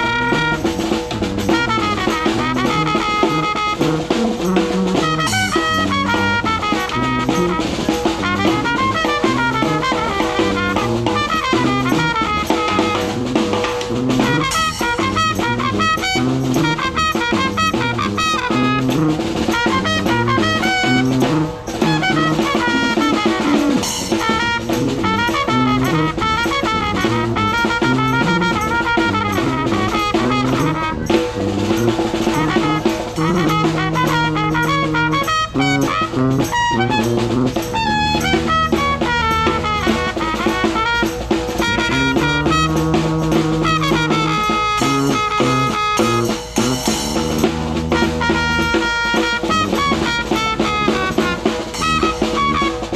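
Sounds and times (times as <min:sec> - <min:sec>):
sousaphone bass line: 0:00.0 - 0:40.9, 0:41.6 - 0:52.9
snare drum and cymbal: 0:00.0 - 0:52.9
trumpet melody: 0:00.0 - 0:52.9.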